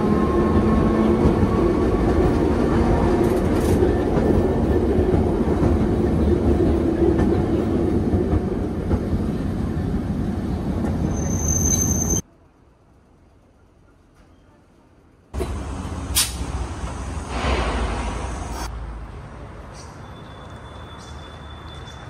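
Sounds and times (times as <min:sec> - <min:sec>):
streetcar wheels and motor rumbling: 0:00.0 - 0:22.0.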